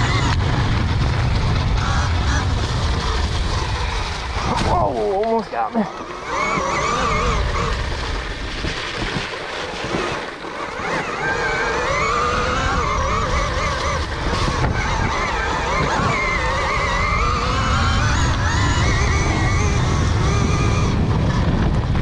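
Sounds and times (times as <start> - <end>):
electric motorbike motor whining: 0.0 - 22.0
wind rumble on microphone: 0.0 - 22.0.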